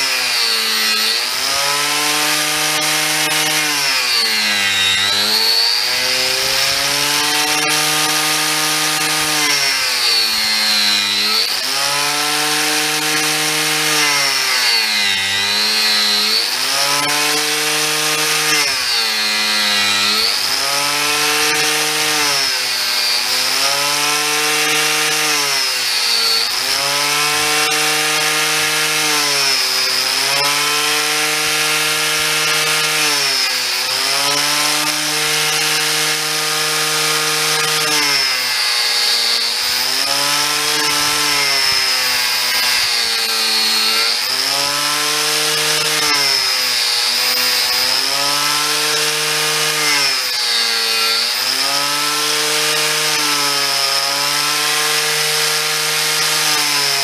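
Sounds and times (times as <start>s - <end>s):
angle grinder motor whine: 0.0s - 57.0s
cutter rasping in wood: 0.0s - 57.0s.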